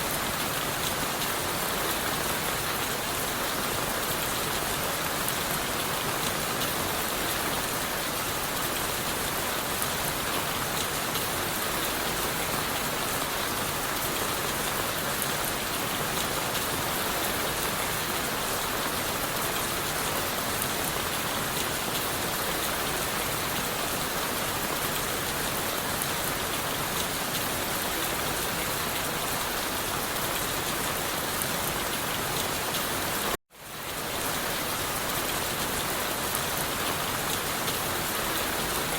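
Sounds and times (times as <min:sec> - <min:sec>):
rain on leaves and wood: 0:00.0 - 0:38.9.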